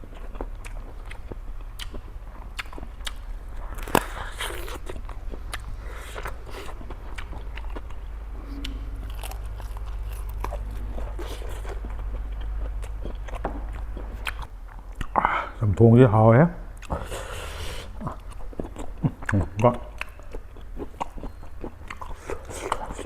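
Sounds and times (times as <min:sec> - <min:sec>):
chewing crunchy food: 0:00.0 - 0:15.2, 0:16.8 - 0:23.0
steady low hum: 0:00.0 - 0:23.0.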